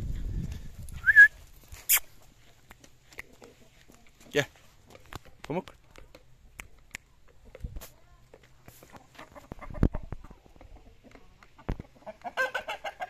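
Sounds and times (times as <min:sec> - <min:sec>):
chickens clucking: 0:01.8 - 0:13.0.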